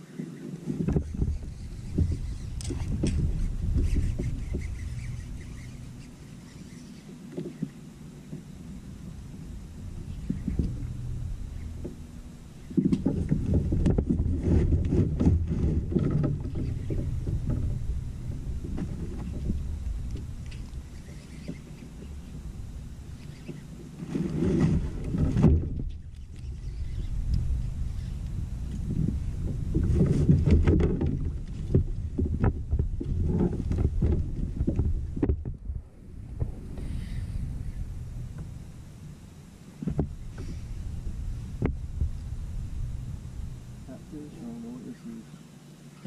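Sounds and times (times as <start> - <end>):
wind buffeting microphone: 0.0 - 44.4
kayak bumping and clicking: 0.7 - 26.7, 27.3 - 35.7, 39.8 - 43.7.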